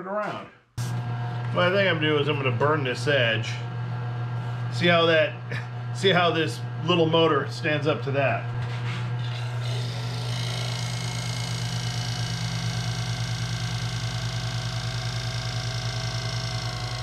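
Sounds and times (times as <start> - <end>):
wood lathe motor hum: 0.8 - 17.0.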